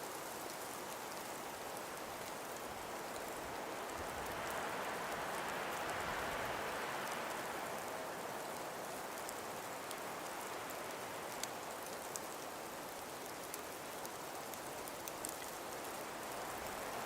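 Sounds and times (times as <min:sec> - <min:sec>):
breeze hissing through trees: 0:00.0 - 0:17.0.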